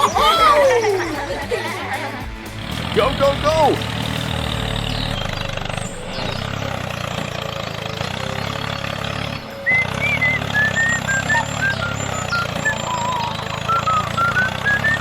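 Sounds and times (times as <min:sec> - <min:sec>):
high chirping notes: 0:00.0 - 0:15.0.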